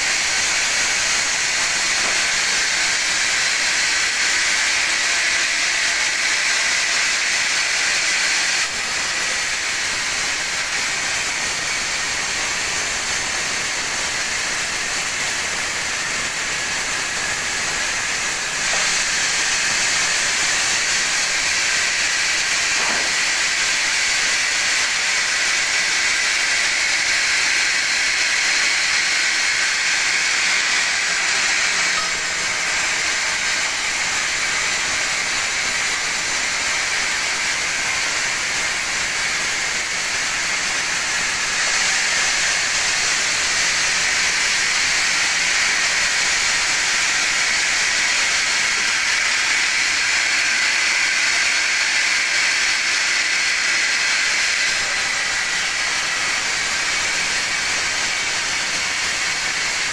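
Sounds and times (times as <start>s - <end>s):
band saw cutting wood: 0.0s - 59.9s.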